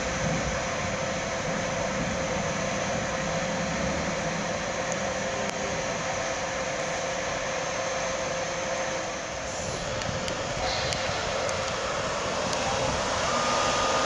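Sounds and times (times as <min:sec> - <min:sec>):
electric locomotive moving slowly: 0:00.0 - 0:14.0.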